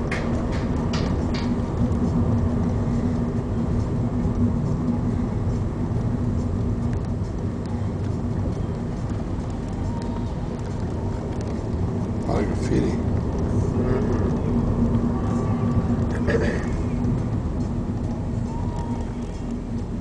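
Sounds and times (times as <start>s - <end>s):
car engine and road noise: 0.0s - 20.0s
held hum: 0.0s - 20.0s.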